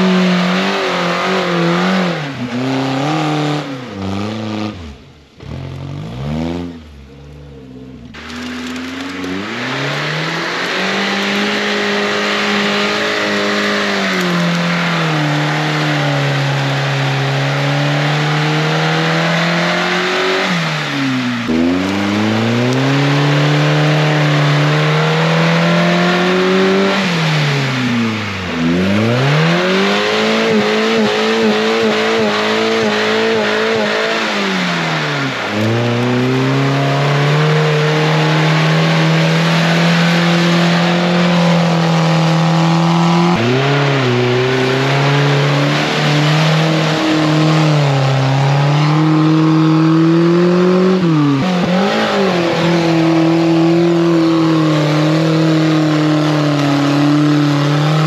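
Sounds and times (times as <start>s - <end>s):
engine revving hard: 0.0s - 7.0s, 8.2s - 58.0s.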